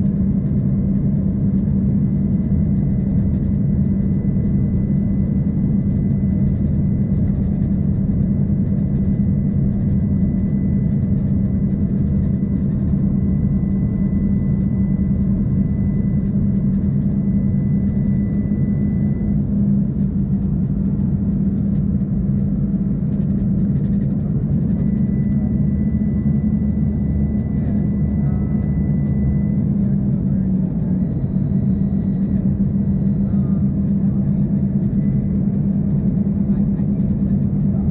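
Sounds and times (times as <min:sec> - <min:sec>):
airflow over fuselage: 0:00.0 - 0:37.9
faint high whine: 0:00.0 - 0:37.9
jet engine cabin drone: 0:00.0 - 0:37.9.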